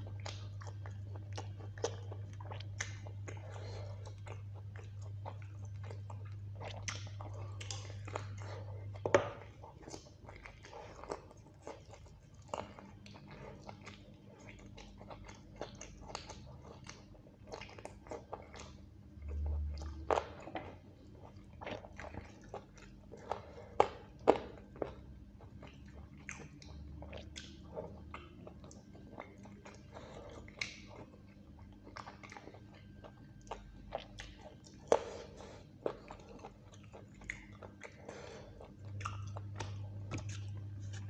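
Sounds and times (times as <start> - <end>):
close-miked chewing and smacking: 0.0 - 41.0
faint steady hum: 0.0 - 41.0.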